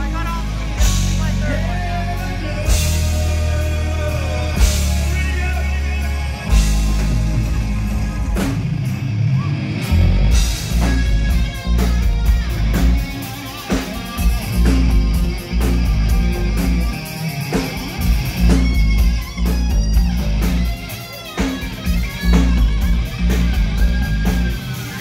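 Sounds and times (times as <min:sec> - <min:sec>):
bass line: 0:00.0 - 0:25.0
drum kit: 0:00.0 - 0:25.0
electric guitars: 0:00.0 - 0:25.0.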